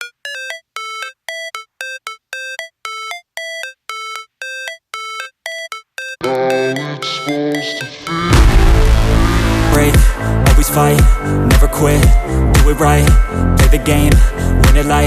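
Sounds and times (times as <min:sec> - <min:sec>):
electronic beeping melody: 0:00.0 - 0:12.3
electronic dance track: 0:00.0 - 0:15.0.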